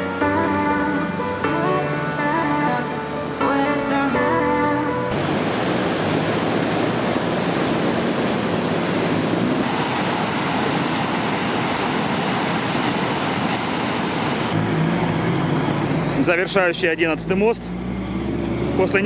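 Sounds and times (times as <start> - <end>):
river water rushing: 0.0 - 16.7.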